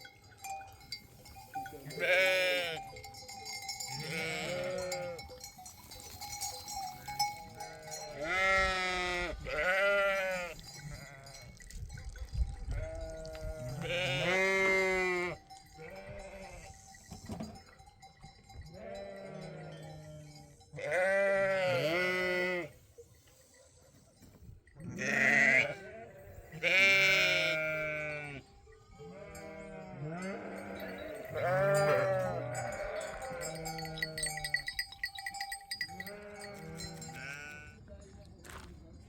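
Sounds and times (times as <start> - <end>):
sheep and goats bleating: 0.0 - 11.7, 12.6 - 17.6, 18.6 - 22.8, 24.7 - 37.9.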